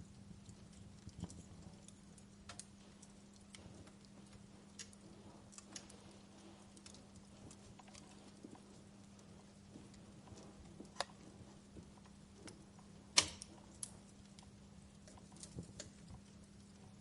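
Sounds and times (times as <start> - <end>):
faint low hum: 0.0 - 17.0
wood fire crackling: 0.0 - 17.0.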